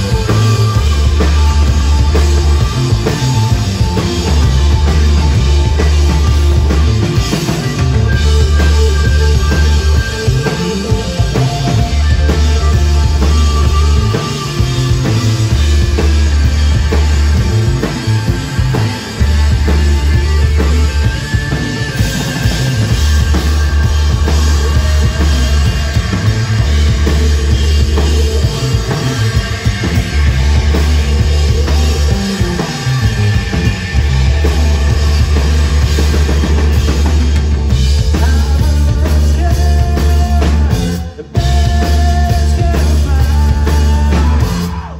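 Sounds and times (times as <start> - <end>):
long held bass notes: 0.0 - 44.9
rock band playing live: 0.0 - 44.9.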